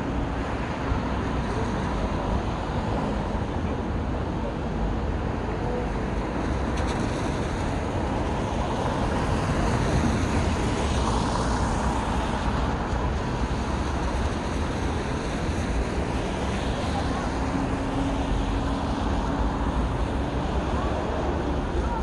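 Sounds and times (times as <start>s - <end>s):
city road traffic: 0.0s - 22.0s.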